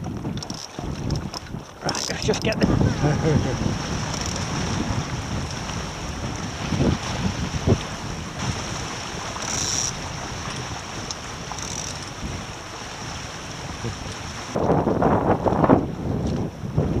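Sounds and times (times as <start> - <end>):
water splashing along hull: 0.0 - 17.0
wind buffeting microphone: 0.0 - 17.0.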